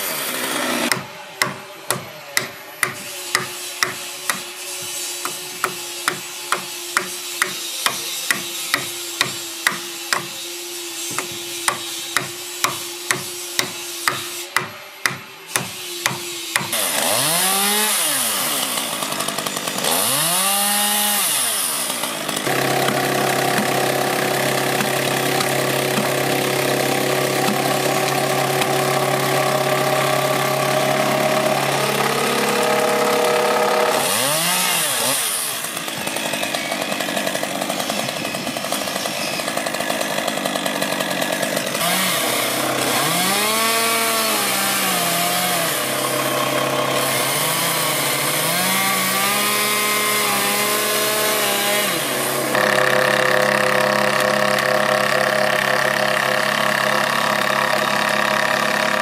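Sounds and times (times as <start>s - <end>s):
chainsaw idling and revving: 5.2s - 59.0s.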